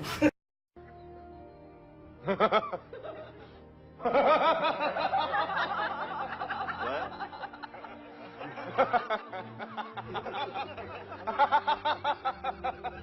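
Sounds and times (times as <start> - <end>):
men laughing: 2.2 - 13.0.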